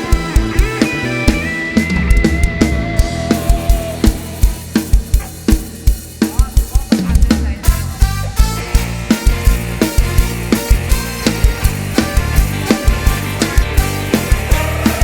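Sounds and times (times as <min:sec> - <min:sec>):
bass: 0:00.0 - 0:15.0
drum kit beat: 0:00.0 - 0:15.0.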